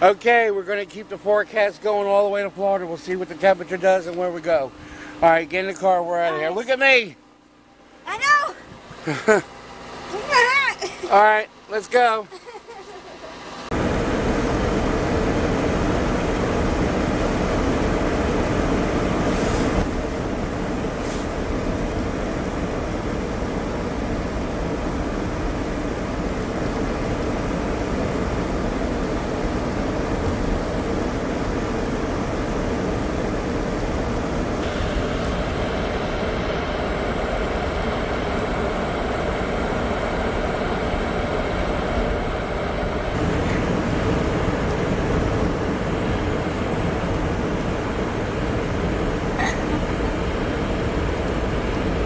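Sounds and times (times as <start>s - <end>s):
car road and engine noise: 0.0s - 52.0s.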